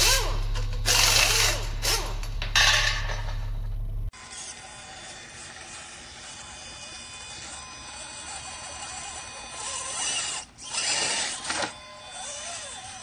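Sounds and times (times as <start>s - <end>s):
toy truck motor whining: 0.0s - 2.3s, 4.1s - 13.0s.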